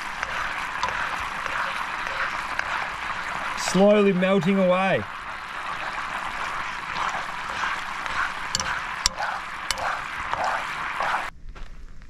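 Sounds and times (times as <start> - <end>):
sauce bubbling in a frying pan: 0.0 - 11.3.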